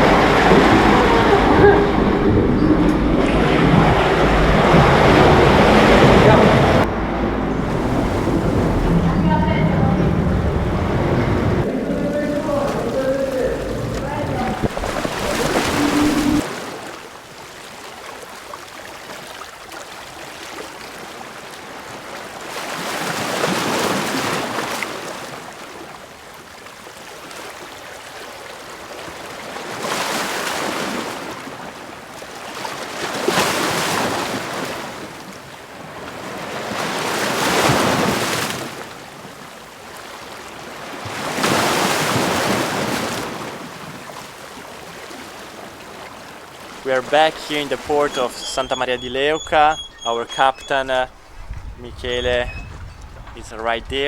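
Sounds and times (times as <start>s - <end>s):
sea waves surging: 0.0s - 54.0s.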